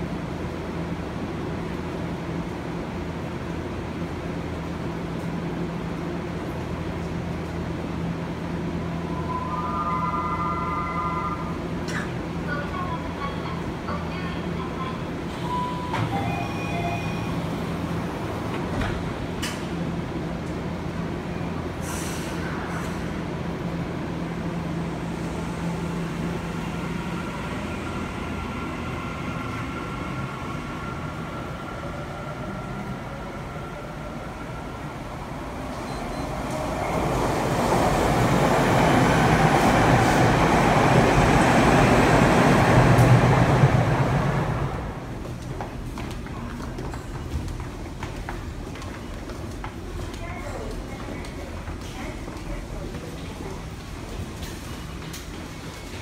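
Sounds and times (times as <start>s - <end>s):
electric train humming: 0.1s - 21.8s, 22.4s - 50.0s.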